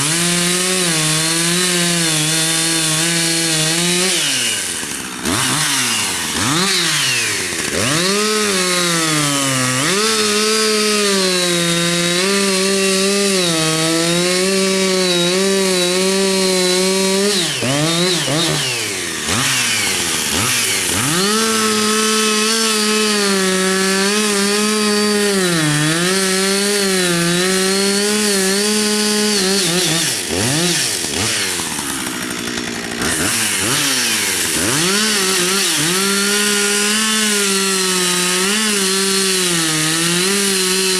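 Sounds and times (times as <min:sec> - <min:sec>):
chainsaw engine at high revs: 0:00.0 - 0:40.9.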